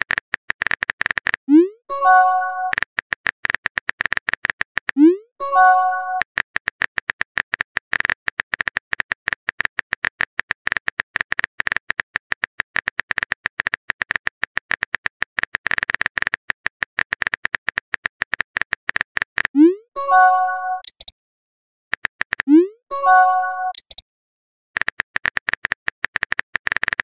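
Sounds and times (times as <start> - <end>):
keyboard typing clicks: 0.0 - 21.2, 21.9 - 24.0, 24.8 - 27.0.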